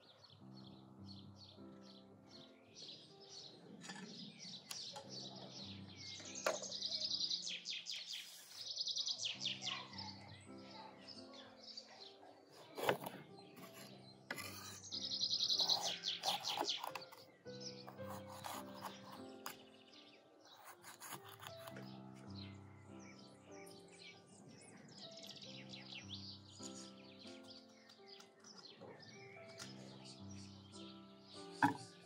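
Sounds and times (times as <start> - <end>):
soft instrumental music: 0.0 - 32.0
songbirds chirping and trilling: 0.0 - 32.0.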